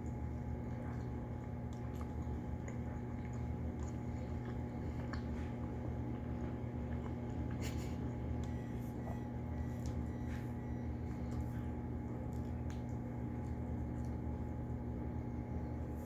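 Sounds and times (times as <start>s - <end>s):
person chewing food: 0.0s - 15.0s
low electrical hum: 0.0s - 16.0s.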